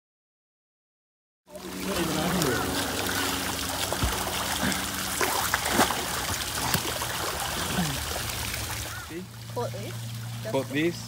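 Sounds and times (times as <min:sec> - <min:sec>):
swimmer splashing water: 0:01.5 - 0:11.0
waterfall rushing into pool: 0:01.5 - 0:11.0.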